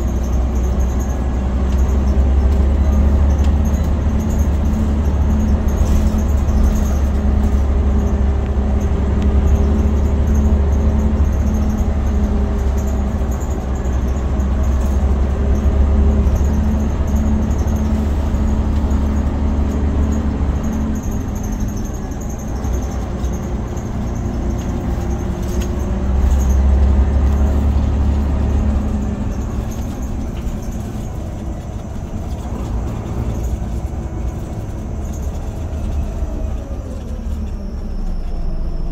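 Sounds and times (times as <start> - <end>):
bus diesel engine drone: 0.0 - 38.9
road noise: 0.0 - 38.9.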